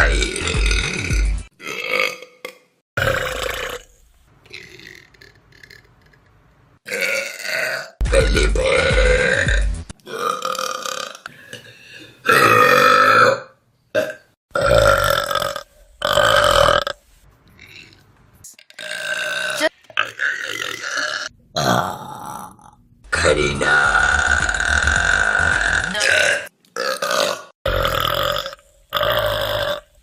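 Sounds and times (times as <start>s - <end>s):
person burping: 0.0s - 3.9s, 4.5s - 16.9s, 18.6s - 29.9s.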